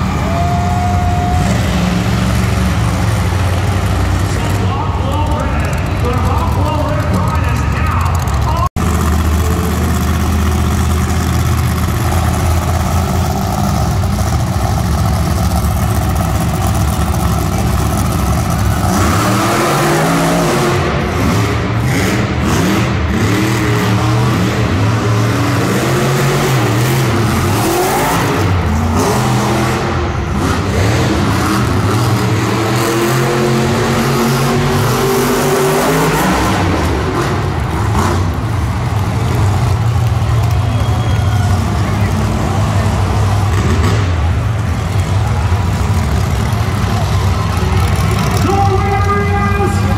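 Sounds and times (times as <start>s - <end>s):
truck engines revving: 0.0s - 49.9s.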